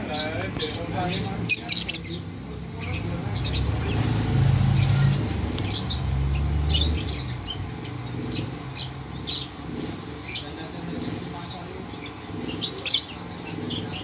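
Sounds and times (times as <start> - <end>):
lovebirds chirping: 0.0 - 14.0.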